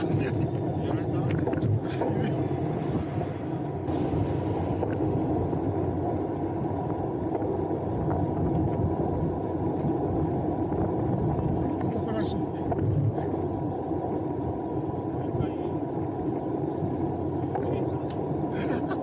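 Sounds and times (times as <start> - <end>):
bicycle tyre noise on asphalt: 0.0 - 19.0
wind rushing over microphone: 0.0 - 19.0.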